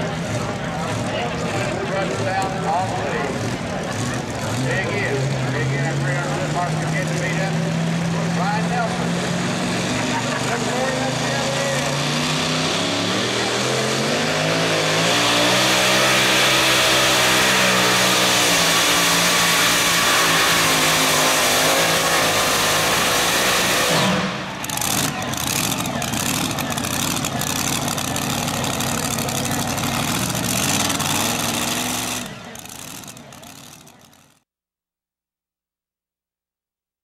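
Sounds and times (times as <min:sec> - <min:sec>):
truck engine at full throttle: 0:00.0 - 0:34.4.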